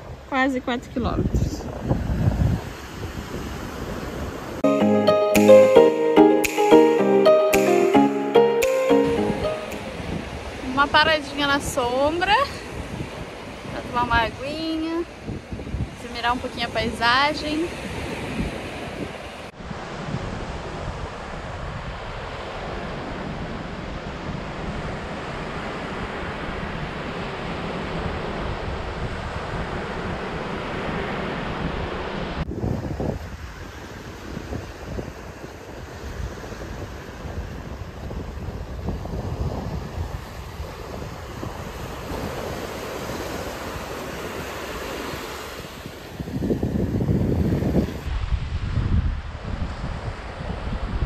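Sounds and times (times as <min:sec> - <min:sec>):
wind buffeting microphone: 0:00.0 - 0:04.6, 0:10.0 - 0:51.0
small waves breaking on sand: 0:01.6 - 0:04.6, 0:10.0 - 0:51.0.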